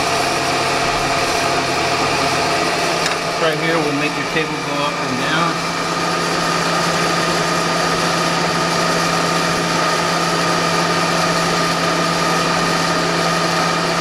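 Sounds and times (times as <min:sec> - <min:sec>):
milling machine motor whining: 0:00.0 - 0:14.0.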